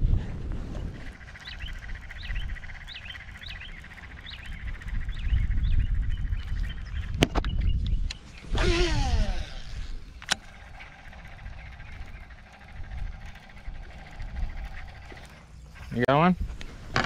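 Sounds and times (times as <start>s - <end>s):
steady high buzz: 0.0s - 7.2s, 8.2s - 17.0s
wind rumble on microphone: 0.0s - 17.0s
bird calling: 0.7s - 16.1s.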